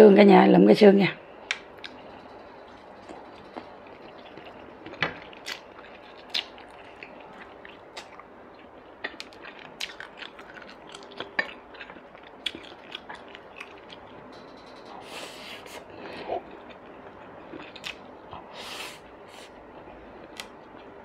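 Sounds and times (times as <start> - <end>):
person chewing food: 2.7 - 14.2, 15.0 - 21.0.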